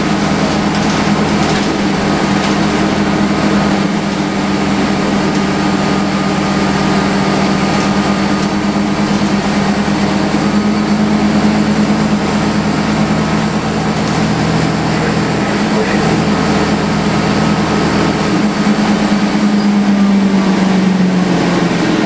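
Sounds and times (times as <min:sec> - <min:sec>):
bus diesel engine drone: 0:00.0 - 0:22.0
loud air-conditioning unit: 0:00.0 - 0:22.0.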